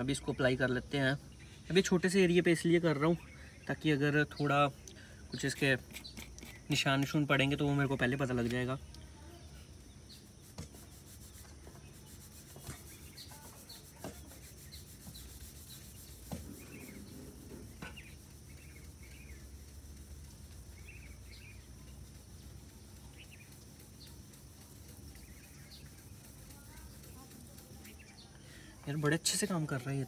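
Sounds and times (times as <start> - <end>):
birds chirping: 0.0 - 30.0
sponge rubbing car paint: 5.4 - 30.0.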